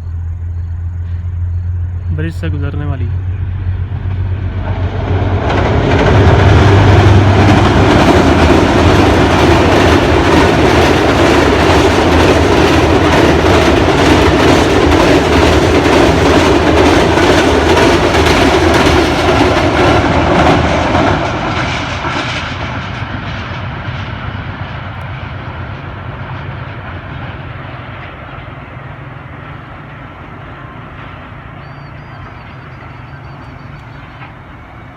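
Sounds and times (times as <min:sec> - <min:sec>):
locomotive engine hum: 0:00.0 - 0:34.9
train wheels clattering on rails: 0:00.6 - 0:34.9.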